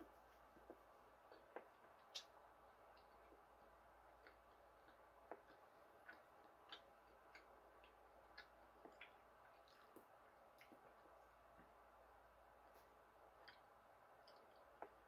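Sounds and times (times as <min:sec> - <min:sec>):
mouth chewing gummy candy: 0:00.0 - 0:15.0.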